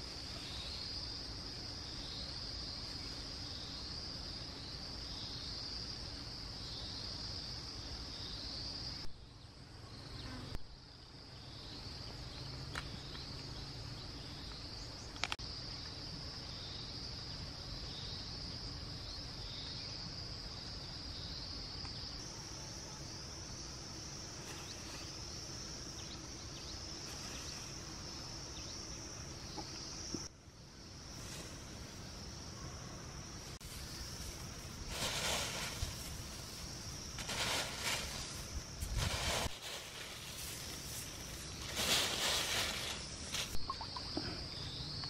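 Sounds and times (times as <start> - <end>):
pulsing insect chorus: 0.0 - 45.0.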